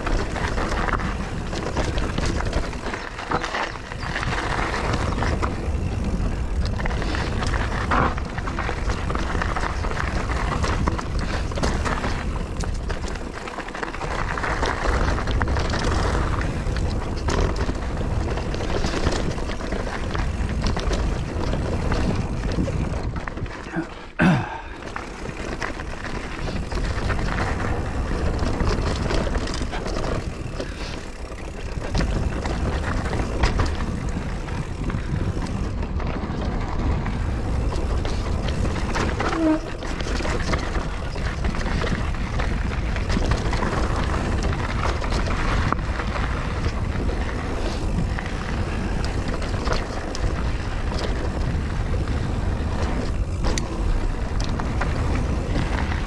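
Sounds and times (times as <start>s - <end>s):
wind buffeting microphone: 0.0s - 23.6s, 24.6s - 56.0s
bike rattling and knocking: 0.0s - 56.0s
bike tyres rolling on dirt: 0.0s - 56.0s.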